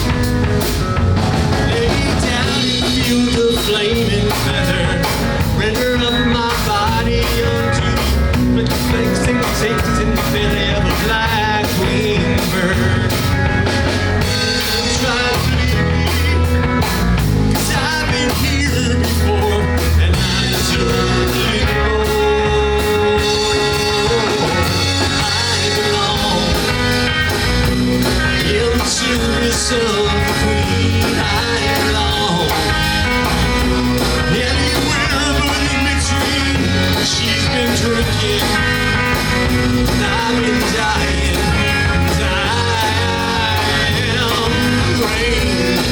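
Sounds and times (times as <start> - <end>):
bass guitar: 0.0 - 45.9
drum kit beat: 0.0 - 45.9
electric guitar: 0.0 - 45.9.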